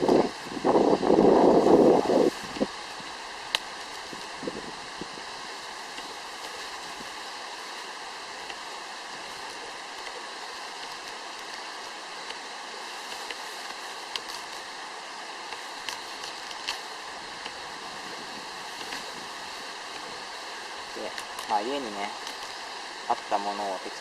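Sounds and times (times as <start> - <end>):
stream rushing over riverbed: 0.0 - 24.0.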